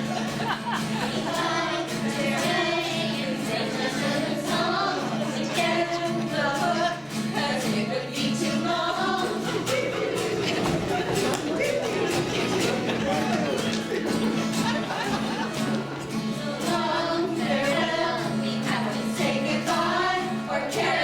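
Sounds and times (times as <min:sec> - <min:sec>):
women singing together: 0:00.0 - 0:21.0.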